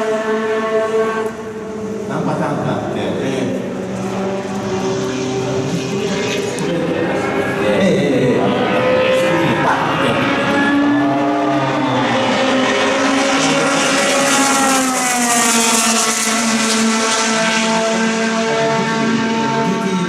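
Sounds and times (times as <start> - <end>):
racing car engine passing: 0.0 - 20.0.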